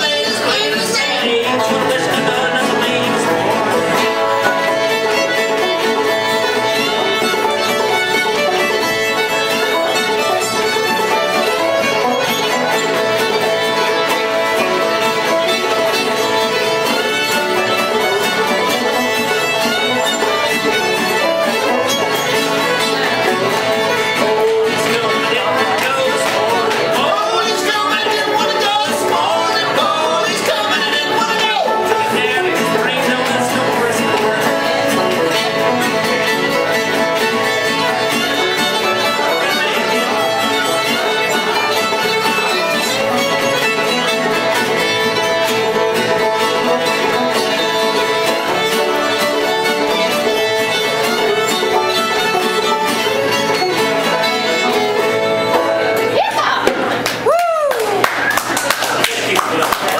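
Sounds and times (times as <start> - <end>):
fiddle playing tune: 0.0 - 56.6
picked banjo: 0.0 - 57.2
strummed acoustic guitar: 0.0 - 57.2.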